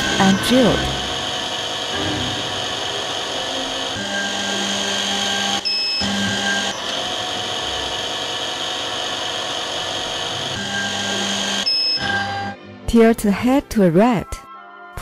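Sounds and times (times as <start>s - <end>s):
lens drill motor whining: 0.0s - 12.5s.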